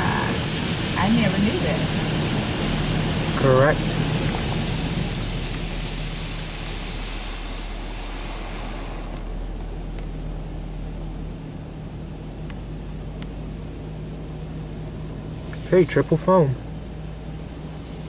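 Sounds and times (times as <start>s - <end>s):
muffled water spray on car: 0.0s - 18.0s
steady low hum: 0.0s - 18.0s.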